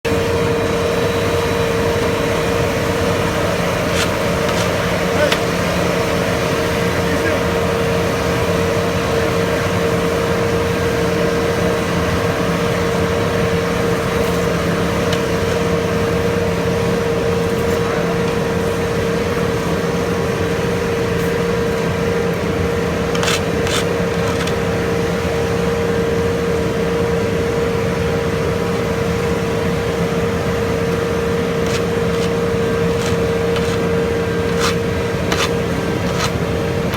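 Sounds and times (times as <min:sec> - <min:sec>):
paving machinery engine humming: 0:00.0 - 0:36.9.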